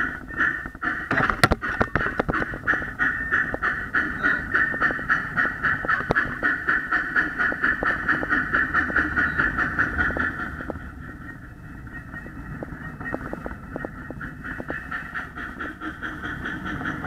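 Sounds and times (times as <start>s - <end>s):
model train chuffing: 0.0s - 17.0s
wheels clicking over rail: 0.0s - 17.0s.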